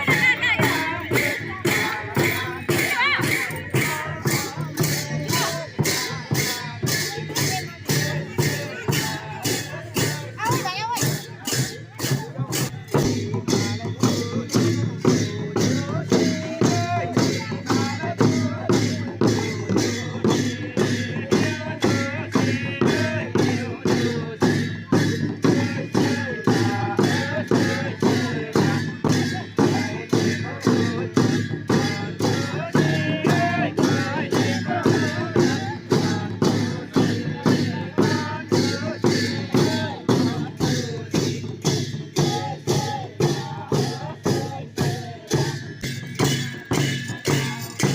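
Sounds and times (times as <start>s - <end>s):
cymbals beating: 0.0s - 47.9s
dhol drum beating: 0.0s - 47.9s.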